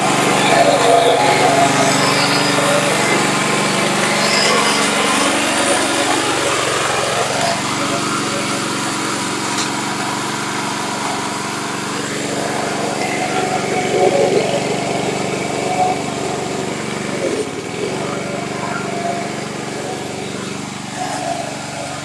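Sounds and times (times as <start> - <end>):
mower engine running: 0.0 - 22.0.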